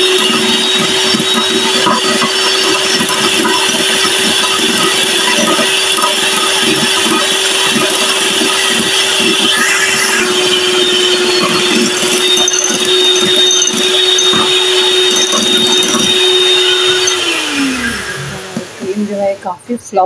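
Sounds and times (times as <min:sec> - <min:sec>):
electric hand mixer whipping cream: 0:00.0 - 0:19.6.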